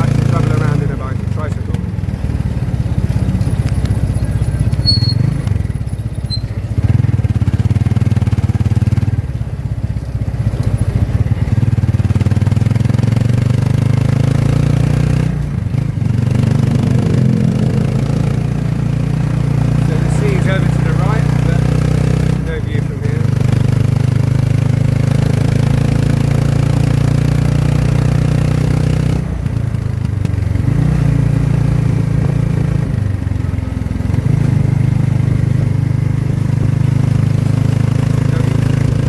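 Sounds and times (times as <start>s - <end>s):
motorcycle engine droning: 0.0s - 39.0s.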